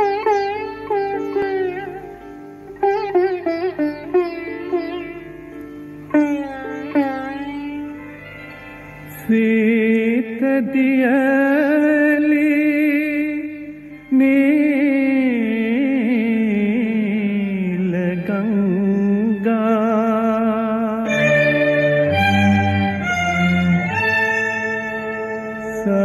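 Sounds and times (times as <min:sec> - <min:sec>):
gliding melody of held notes: 0:00.0 - 0:26.0.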